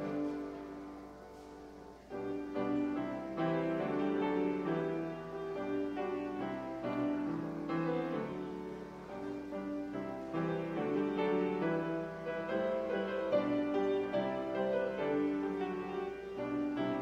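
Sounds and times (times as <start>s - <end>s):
grand piano playing slow chords: 0.0s - 17.0s.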